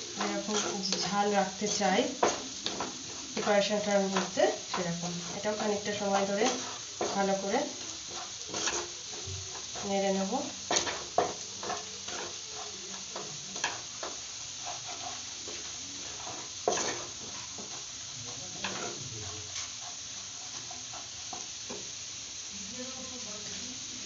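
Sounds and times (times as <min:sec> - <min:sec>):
spatula scraping and tapping pan: 0:00.0 - 0:21.9
garlic sizzling in a frying pan: 0:00.0 - 0:24.0.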